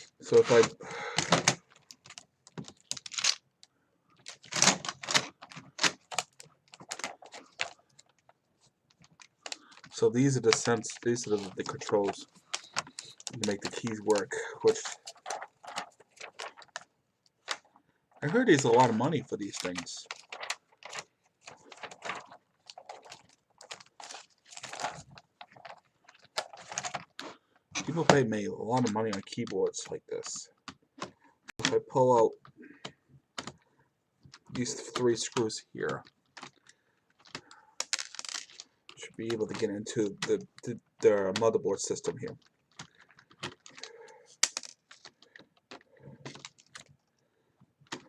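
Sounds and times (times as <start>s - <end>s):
keyboard parts clicking and knocking: 0.3s - 3.4s, 4.2s - 33.6s, 34.2s - 48.0s.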